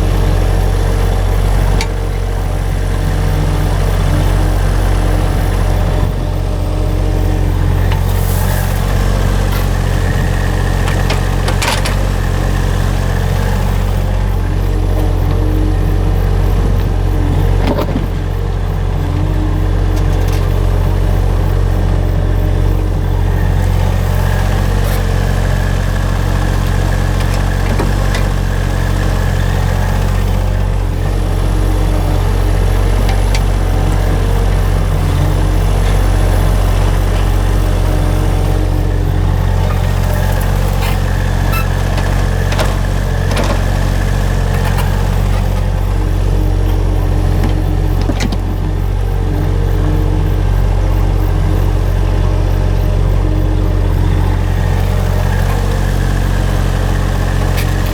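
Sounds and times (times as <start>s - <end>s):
small engine humming: 0.0s - 57.9s.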